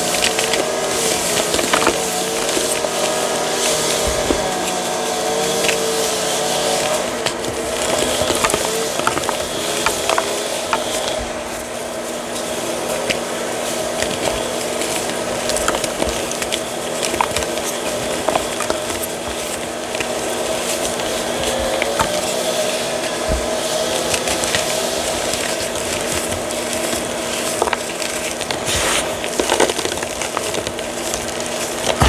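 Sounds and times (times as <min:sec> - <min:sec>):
chalk crunching and crackling: 0:00.0 - 0:32.0.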